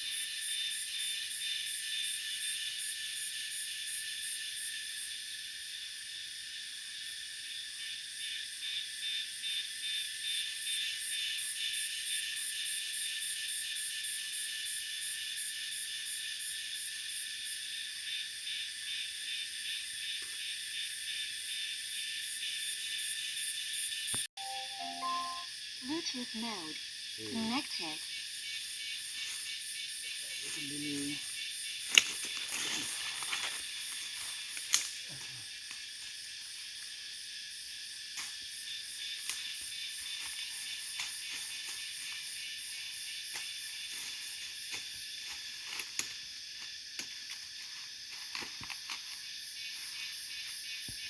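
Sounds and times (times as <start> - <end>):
pulsing insect chorus: 0.0 - 51.0.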